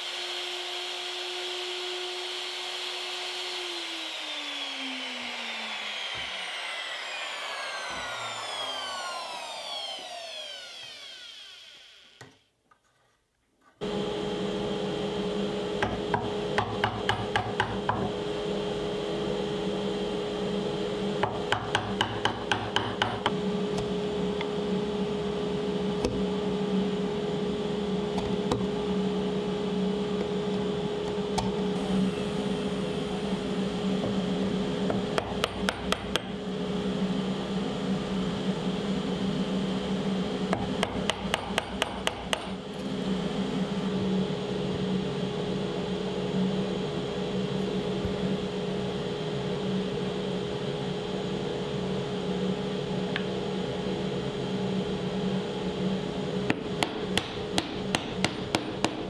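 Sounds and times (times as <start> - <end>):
machine hum: 0.0 - 12.3, 13.8 - 59.0.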